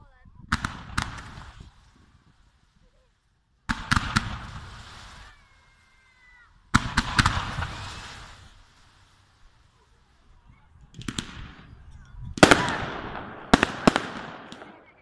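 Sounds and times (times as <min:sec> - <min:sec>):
fireworks bursting with bangs: 0:00.0 - 0:15.0
fireworks crackling: 0:00.0 - 0:15.0.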